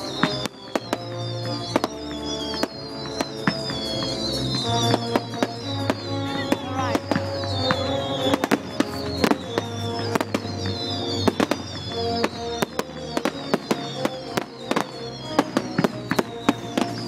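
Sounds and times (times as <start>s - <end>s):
fireworks bangs and crackles: 0.0s - 17.0s
music: 0.0s - 17.0s.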